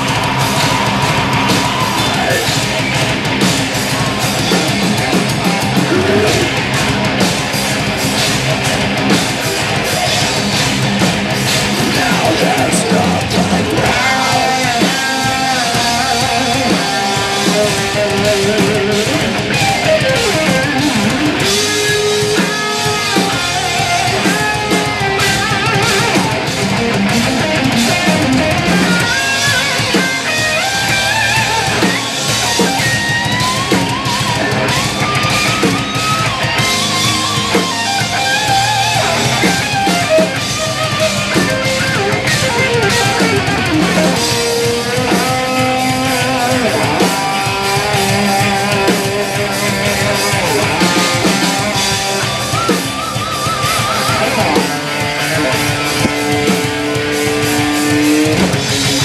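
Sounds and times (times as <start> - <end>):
live rock band playing: 0.0 - 59.0
melodic guitar line: 0.0 - 59.0.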